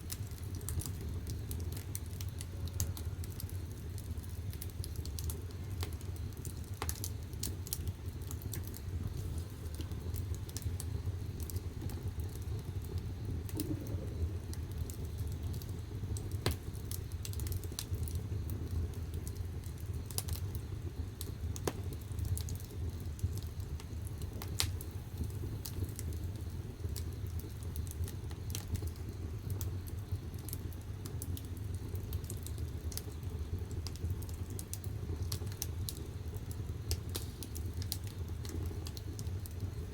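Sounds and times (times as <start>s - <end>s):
burning wood crackling: 0.0s - 39.9s
fire rumbling: 0.0s - 39.9s.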